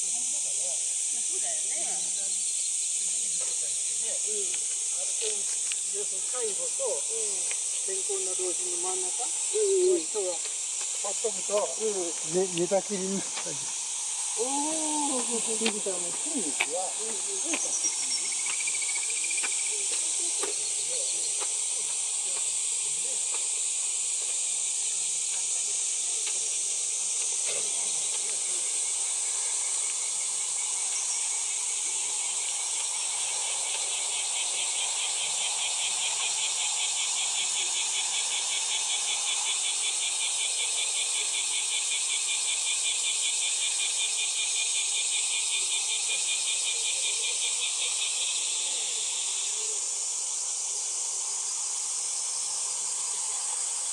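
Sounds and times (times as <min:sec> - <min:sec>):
insects high-pitched chorus: 0:00.0 - 0:53.9
rapidly pulsing insect song: 0:00.0 - 0:53.9.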